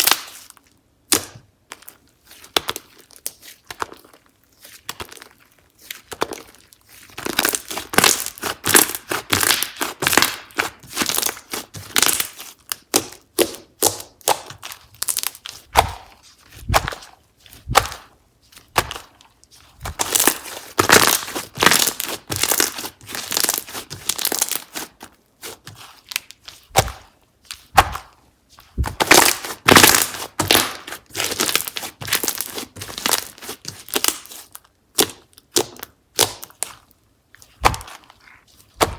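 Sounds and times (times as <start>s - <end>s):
slime crackling and popping: 0.0s - 38.9s.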